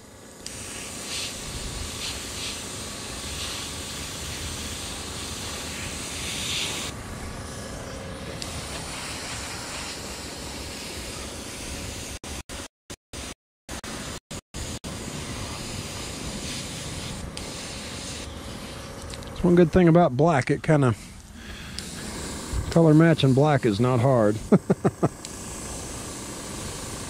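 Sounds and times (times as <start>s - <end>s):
airbrush spraying hiss: 0.4s - 7.8s, 8.4s - 12.2s, 13.9s - 19.2s, 21.0s - 27.0s.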